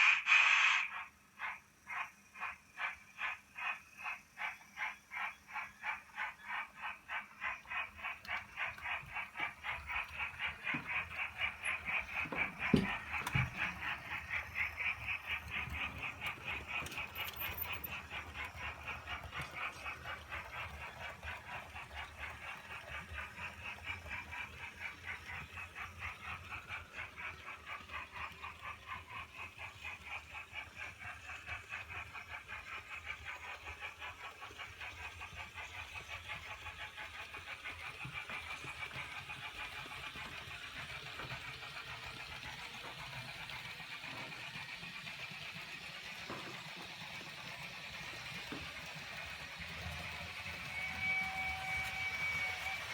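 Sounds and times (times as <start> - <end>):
model locomotive steam chuffing: 0.0 - 52.9.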